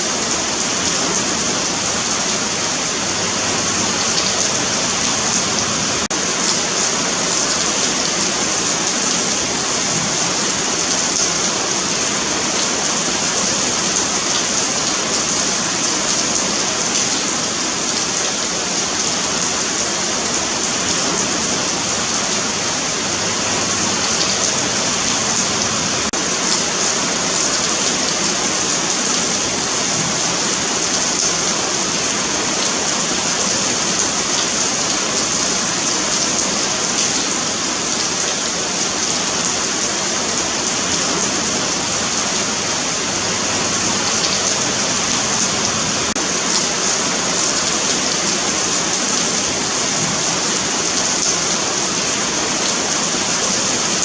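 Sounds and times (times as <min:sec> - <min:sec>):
rain on pavement: 0:00.0 - 0:54.0.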